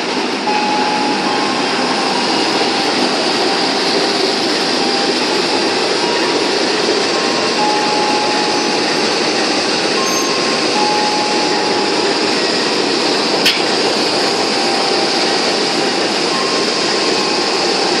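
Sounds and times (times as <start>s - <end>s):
locomotive engine idling: 0.0s - 18.0s.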